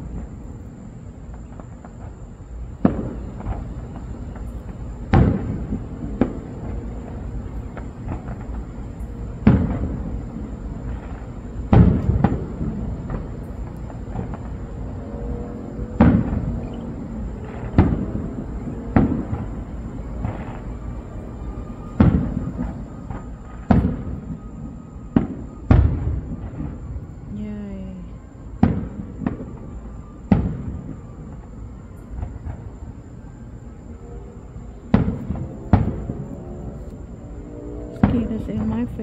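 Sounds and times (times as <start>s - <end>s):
fireworks booming: 0.0s - 39.0s.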